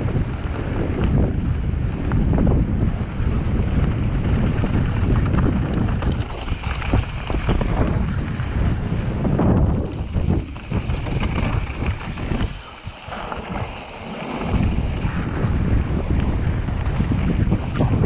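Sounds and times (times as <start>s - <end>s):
bike knocks and rattles: 0.0s - 18.0s
bike tyres on gravel: 0.0s - 18.0s
wind buffeting microphone: 0.0s - 18.0s.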